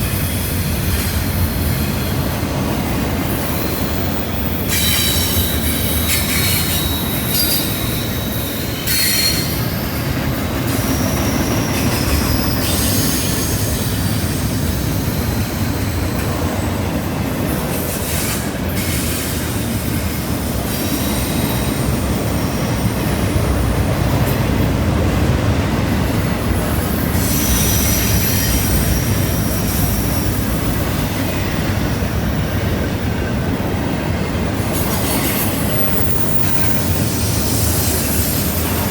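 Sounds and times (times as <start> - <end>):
train rumble: 0.0 - 38.9
train wheels squealing on rails: 0.0 - 38.9.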